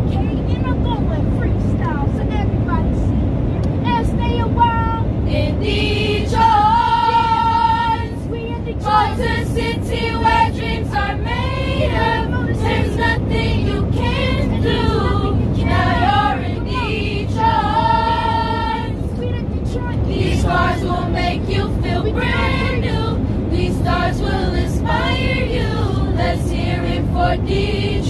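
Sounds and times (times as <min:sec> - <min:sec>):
low drone of airliner cabin: 0:00.0 - 0:28.0
girls' choir singing unaccompanied: 0:05.3 - 0:28.0.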